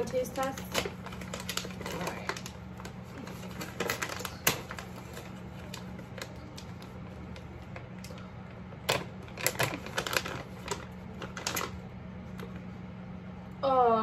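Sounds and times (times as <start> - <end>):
low steady hum: 0.0 - 14.0
plastic pouch crinkling: 0.2 - 12.6.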